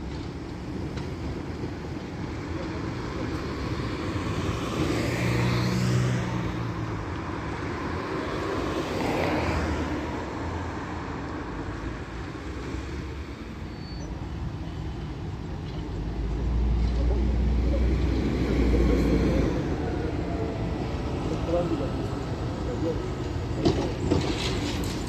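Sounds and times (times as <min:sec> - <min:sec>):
tram approaching: 0:00.0 - 0:05.2, 0:06.4 - 0:25.0
cars driving past: 0:00.0 - 0:25.0.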